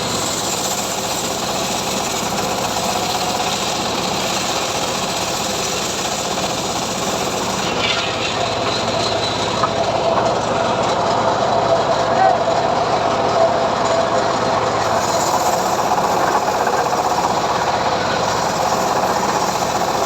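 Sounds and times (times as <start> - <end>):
sawmill running: 0.0 - 20.0.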